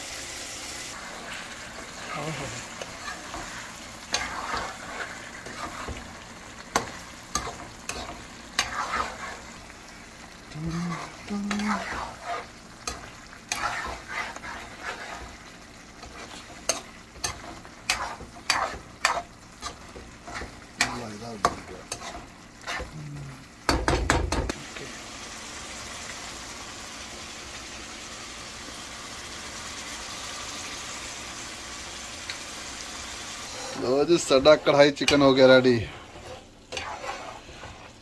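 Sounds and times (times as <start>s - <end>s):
chicken sizzling in a pan: 0.0s - 38.0s.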